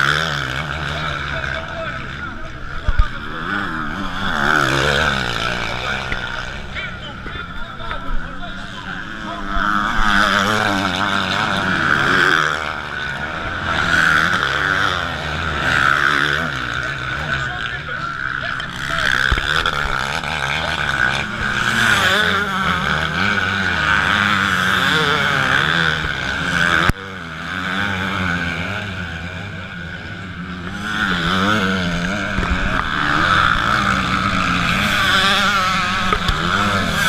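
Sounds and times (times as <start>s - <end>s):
motocross bikes revving: 0.0s - 37.0s.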